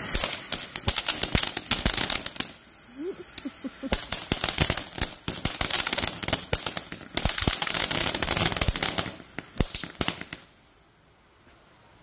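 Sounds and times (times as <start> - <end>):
firework crackling pops: 0.0 - 11.7
firework fountain hiss: 0.0 - 12.0.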